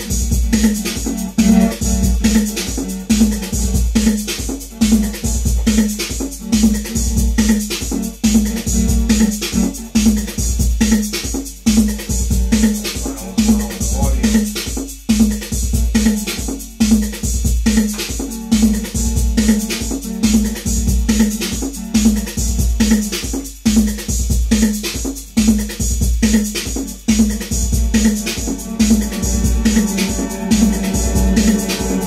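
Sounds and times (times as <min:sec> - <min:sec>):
drum machine beat: 0:00.0 - 0:32.0.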